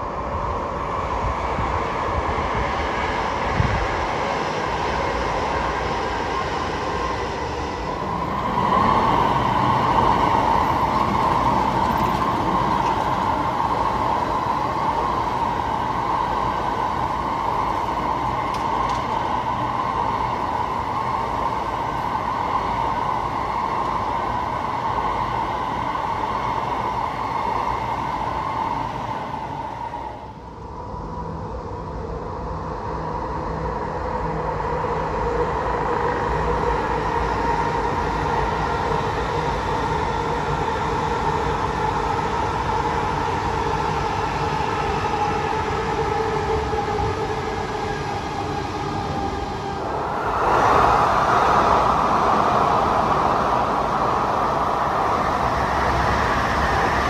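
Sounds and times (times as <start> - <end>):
high-speed train rushing: 0.0 - 57.0.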